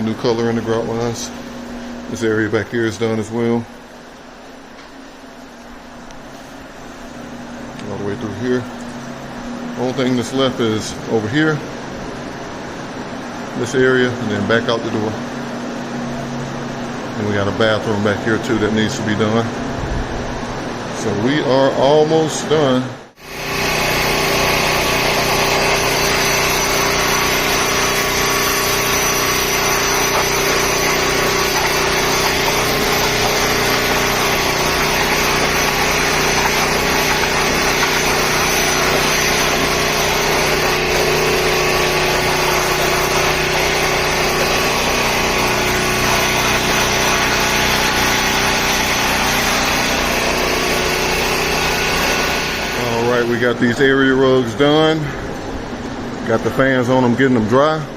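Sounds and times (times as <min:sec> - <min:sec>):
air-mover fans droning: 0:00.0 - 0:57.9.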